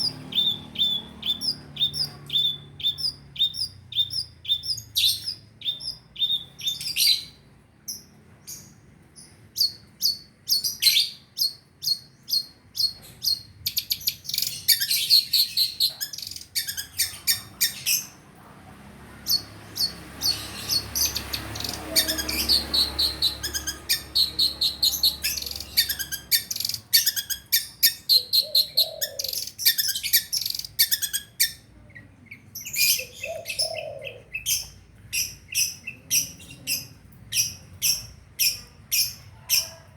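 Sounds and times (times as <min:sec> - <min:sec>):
bird chirping and chattering: 0:00.0 - 0:18.3, 0:19.2 - 0:39.9.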